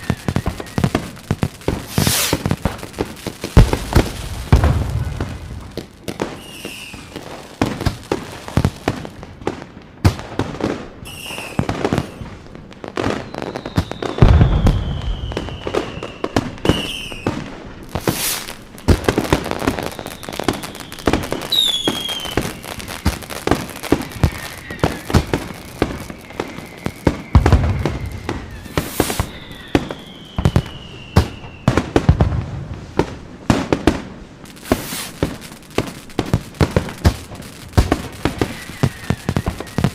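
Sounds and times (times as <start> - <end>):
deep firework booms: 0.0 - 10.8, 13.0 - 39.9
fireworks bangs and crackles: 0.0 - 39.9
whistling fireworks: 0.0 - 39.9.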